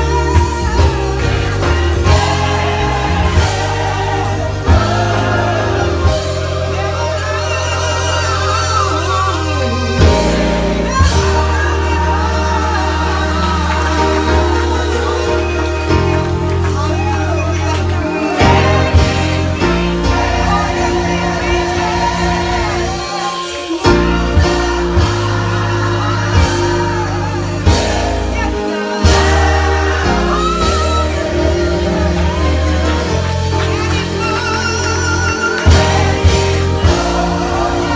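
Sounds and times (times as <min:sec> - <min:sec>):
gospel voices singing: 0:00.0 - 0:37.9
live band bass notes: 0:00.0 - 0:37.9.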